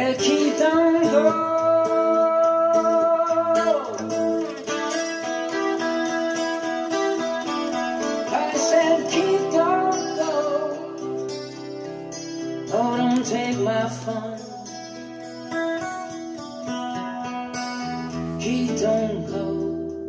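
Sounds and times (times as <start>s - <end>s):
guitar-led song with singing: 0.0s - 20.0s.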